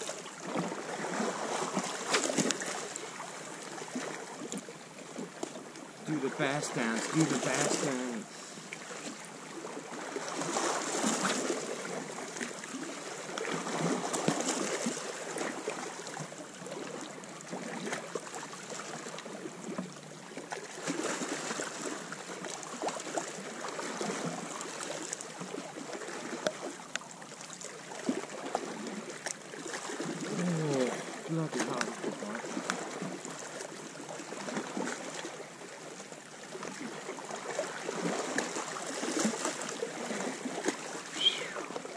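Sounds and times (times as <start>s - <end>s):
sea water lapping against rocks: 0.0s - 41.9s.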